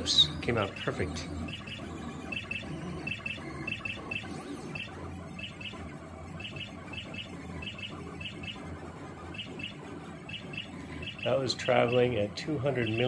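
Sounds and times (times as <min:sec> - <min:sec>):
steady low hum: 0:00.0 - 0:13.0
stepper motors whirring: 0:00.0 - 0:13.0.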